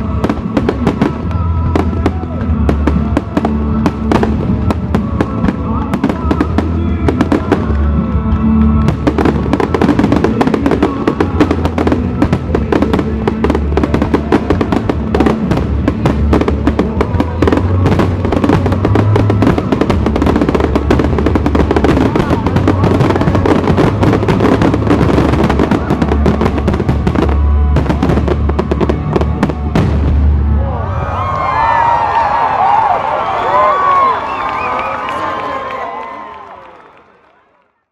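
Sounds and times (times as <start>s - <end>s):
fireworks bangs and crackles: 0.0s - 30.7s
loud music with deep bass: 0.0s - 30.8s.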